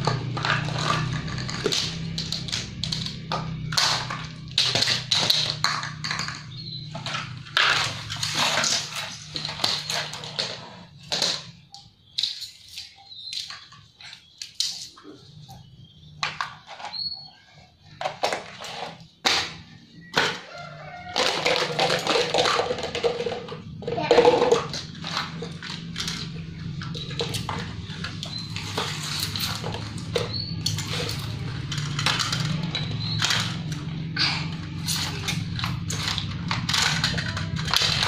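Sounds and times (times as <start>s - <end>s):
plastic toys clattering on tiles: 0.0s - 38.0s.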